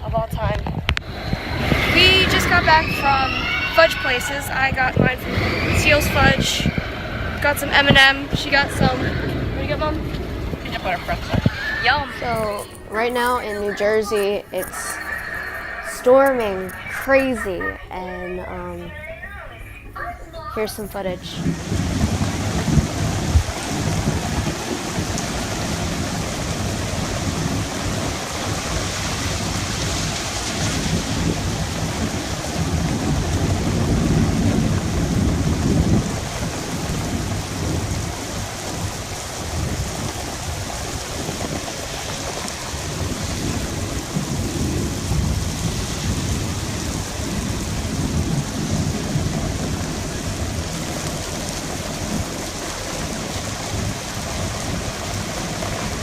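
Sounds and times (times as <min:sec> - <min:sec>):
heavy rain pouring: 0:00.0 - 0:56.0
thunder rumbling: 0:00.0 - 0:56.0.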